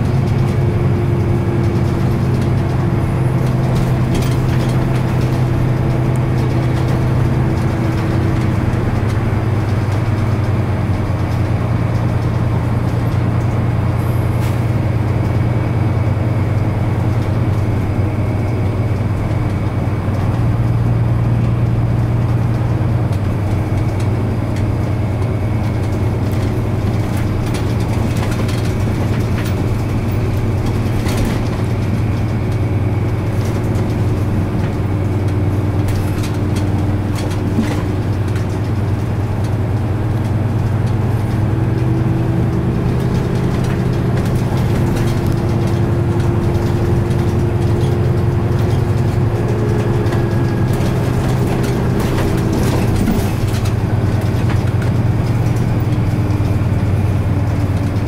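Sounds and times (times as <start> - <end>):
bus diesel engine drone: 0.0 - 58.0
road and tyre noise: 0.0 - 58.0.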